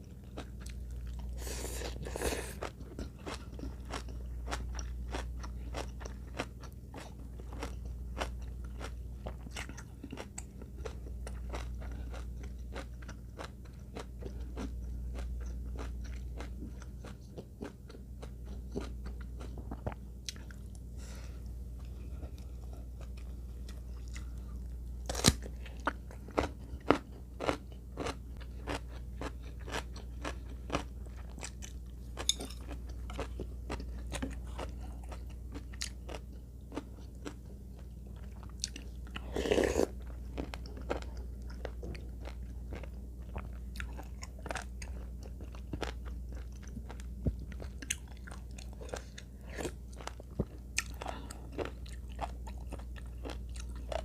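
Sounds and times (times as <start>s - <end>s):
chewing and crunching food: 0.0s - 54.0s
steady low hum: 0.0s - 54.0s.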